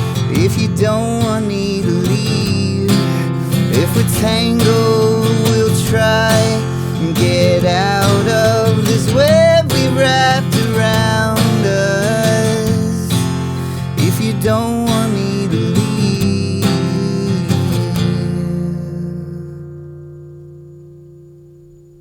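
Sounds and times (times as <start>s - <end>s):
wordless vocal: 0.0s - 19.7s
strummed acoustic guitar: 0.0s - 22.0s.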